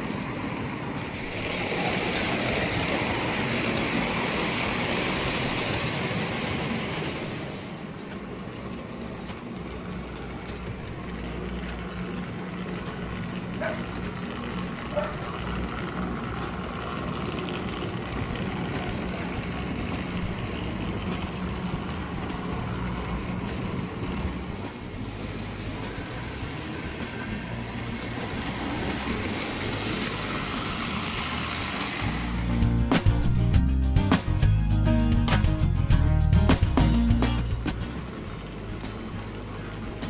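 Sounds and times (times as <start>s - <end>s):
toy train motor hum and rumble: 0.0s - 34.5s, 35.6s - 40.0s
rhythmic track clicks: 0.0s - 40.0s.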